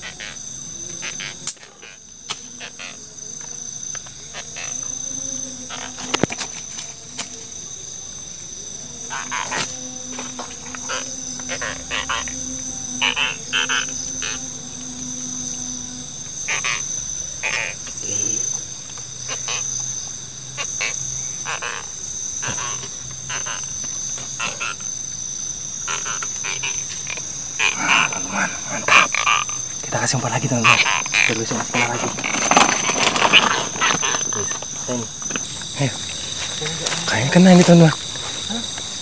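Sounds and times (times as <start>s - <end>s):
frogs croaking: 0.0s - 39.0s
high-pitched insect drone: 0.0s - 39.0s.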